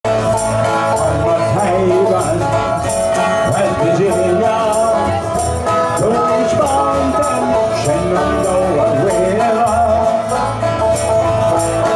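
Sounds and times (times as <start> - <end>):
bluegrass band playing: 0.0 - 11.9
man singing: 0.1 - 11.9.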